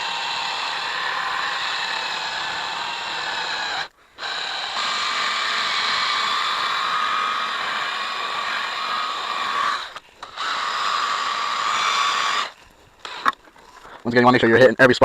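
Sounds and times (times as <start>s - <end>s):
power tool high whine: 0.0s - 13.3s.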